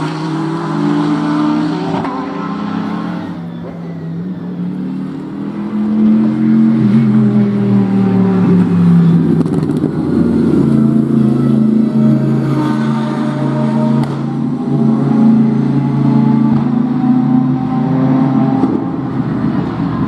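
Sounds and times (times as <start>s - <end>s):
racing car engine: 0.0s - 20.0s.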